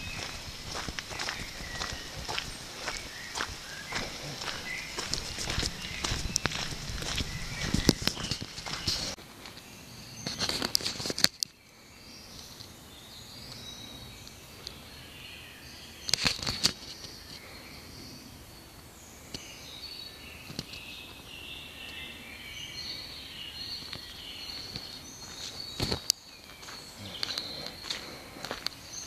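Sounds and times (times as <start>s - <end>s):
outdoor background noise: 0.0s - 29.0s
woodland birds singing: 0.0s - 29.0s.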